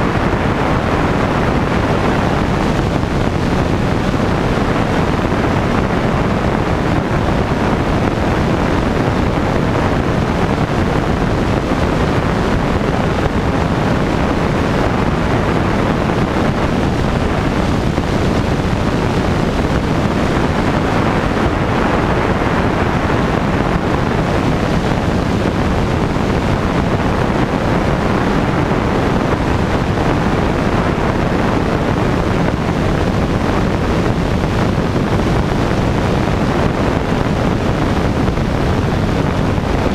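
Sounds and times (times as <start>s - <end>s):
aircraft engine and propeller drone: 0.0s - 39.9s
wind buffeting microphone: 0.0s - 39.9s.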